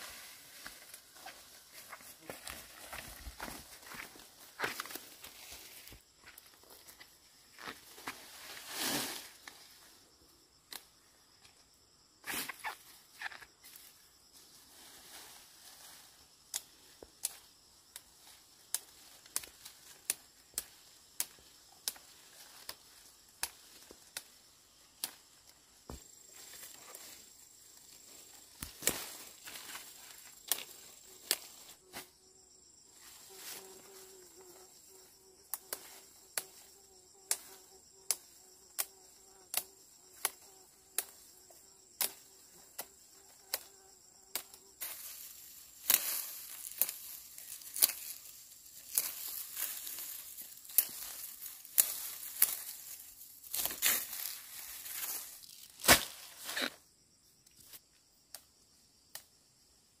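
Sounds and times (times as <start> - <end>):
insects buzzing: 0.0 - 60.0.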